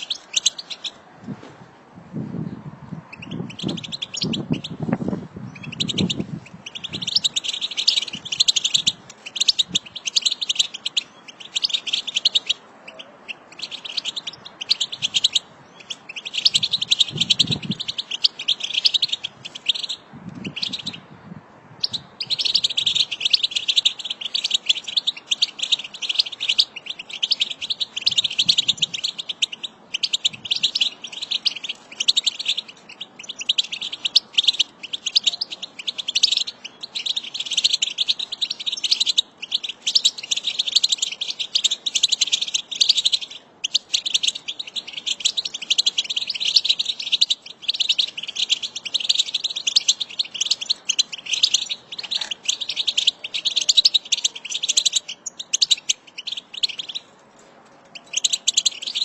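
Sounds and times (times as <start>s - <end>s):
goldfinches twittering: 3.1s - 4.8s, 5.5s - 21.0s, 21.8s - 57.1s, 58.0s - 59.0s.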